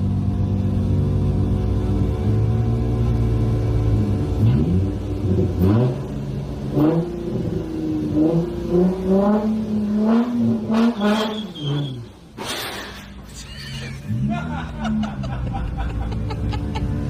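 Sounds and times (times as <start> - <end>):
car engine idling and revving: 0.0 - 12.4, 13.1 - 17.0.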